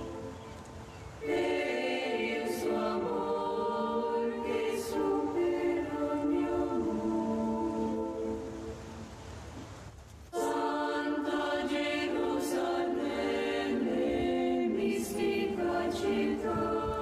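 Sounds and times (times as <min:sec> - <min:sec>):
choir singing sustained notes: 0:00.0 - 0:09.5, 0:10.3 - 0:17.0.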